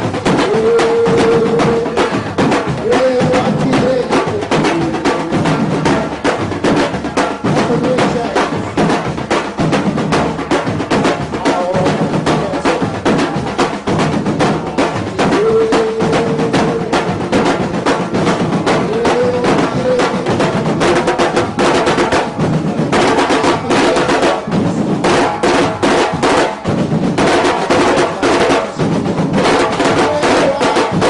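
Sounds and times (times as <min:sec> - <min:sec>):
group drumming: 0:00.0 - 0:31.0.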